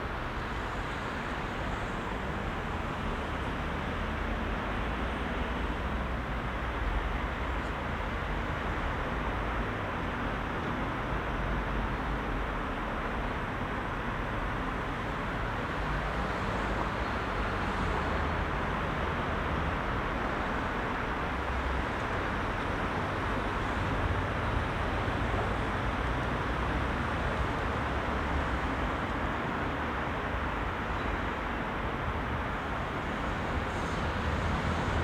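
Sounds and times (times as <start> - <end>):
heavy road traffic: 0.0 - 35.0.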